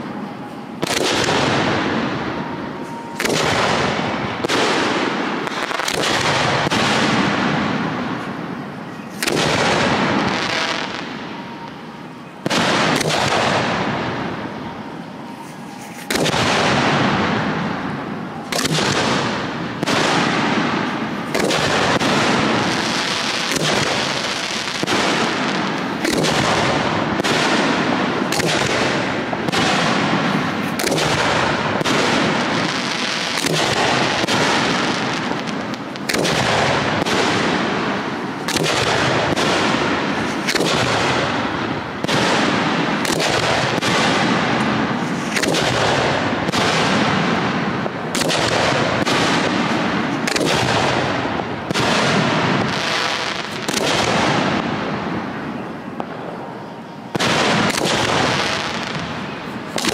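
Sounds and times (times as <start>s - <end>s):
fireworks shells bursting: 0.0s - 59.9s.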